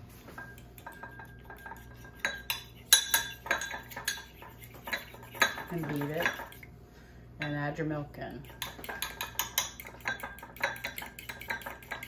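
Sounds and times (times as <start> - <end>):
fork clinking against ceramic dish: 0.3 - 6.6, 8.4 - 12.0.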